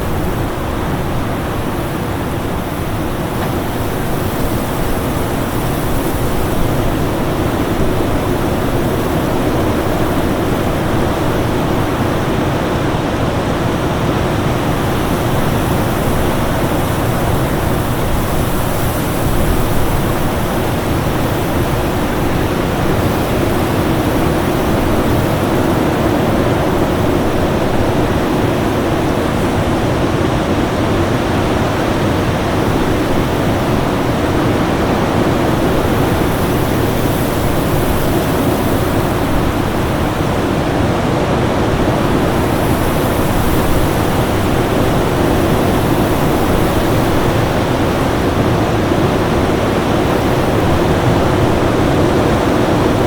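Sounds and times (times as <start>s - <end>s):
steady rush of wind: 0.0s - 53.0s.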